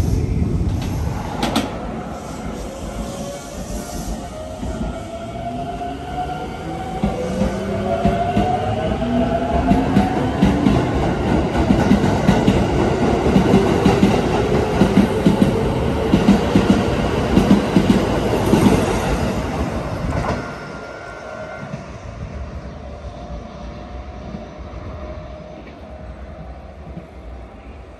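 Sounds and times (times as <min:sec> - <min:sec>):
electric train passing: 0:00.0 - 0:27.9.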